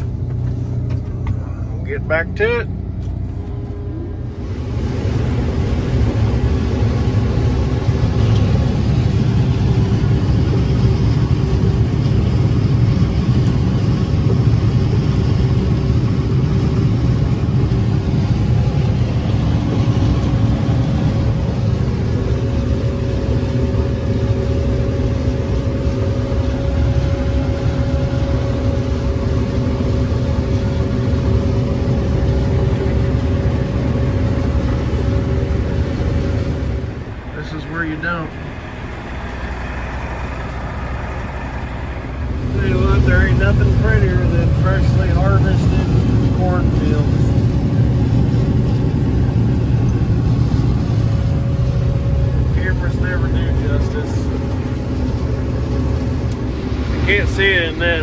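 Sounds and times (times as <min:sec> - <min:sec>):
combine harvester rumble: 0:00.0 - 0:58.0.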